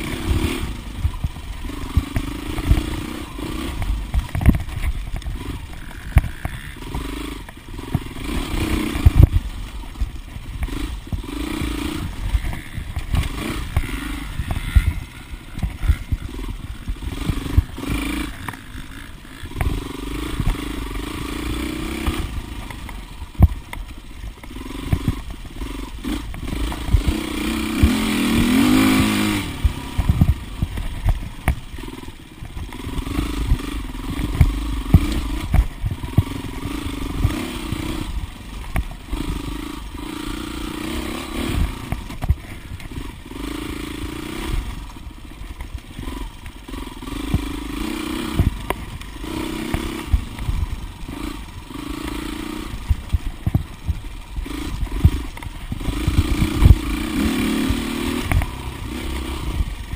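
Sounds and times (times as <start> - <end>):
motorcycle engine revving: 0.0 - 59.9
bike knocks and rattles: 0.2 - 20.7, 21.5 - 39.6, 41.4 - 46.6, 52.7 - 59.9.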